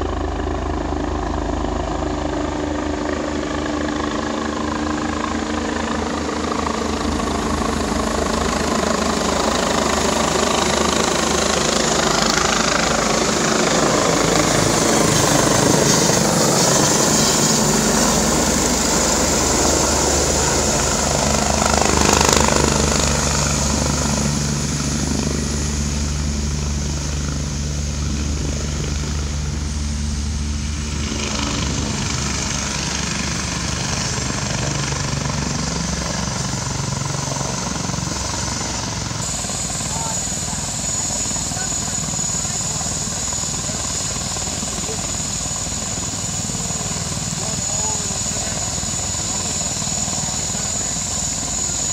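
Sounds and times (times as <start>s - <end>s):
helicopter rotor and turbine noise: 0.0s - 51.9s.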